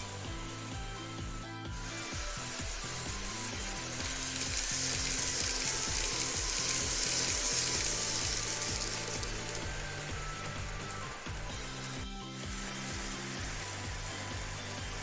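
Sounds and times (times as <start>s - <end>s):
background music: 0.0s - 15.0s
model train clattering whir: 0.0s - 15.0s.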